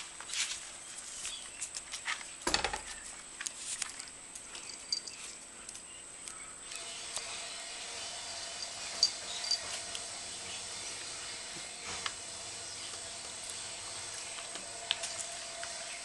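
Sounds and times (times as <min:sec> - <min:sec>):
puppy paws pattering and scuffling: 0:00.0 - 0:07.3, 0:08.6 - 0:16.0.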